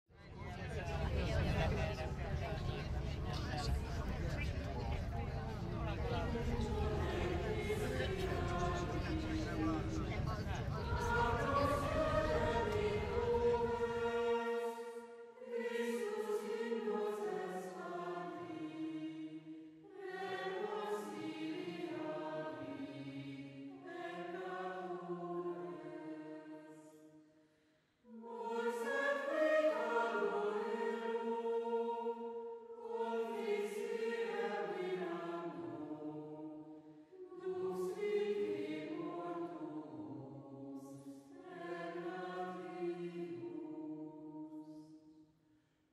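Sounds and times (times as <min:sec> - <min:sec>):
choir singing chant: 0:00.5 - 0:27.2, 0:28.0 - 0:45.2.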